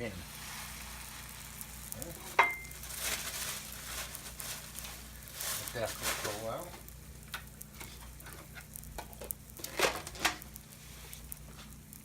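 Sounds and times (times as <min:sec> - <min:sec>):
sandwich sizzling in a pan: 0:00.0 - 0:12.0.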